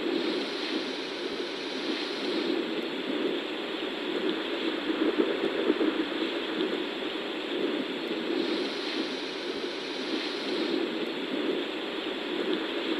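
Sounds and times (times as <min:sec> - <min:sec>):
white noise machine hiss: 0:00.0 - 0:12.9.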